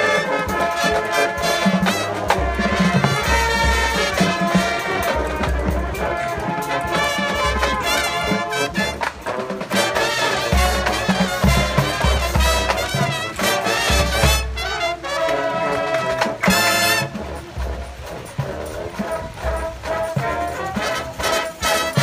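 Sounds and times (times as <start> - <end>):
marching band playing: 0.0 - 22.0.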